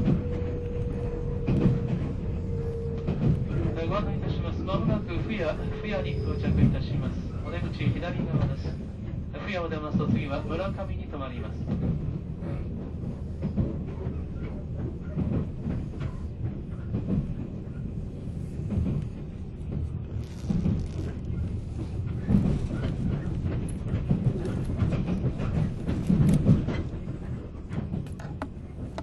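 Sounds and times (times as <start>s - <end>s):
train cabin low rumble: 0.0s - 29.0s.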